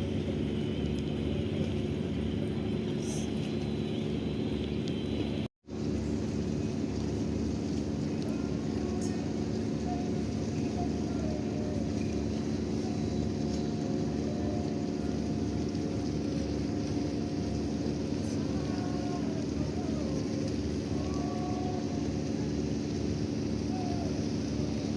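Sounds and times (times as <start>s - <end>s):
ship engines droning: 0.0s - 24.9s.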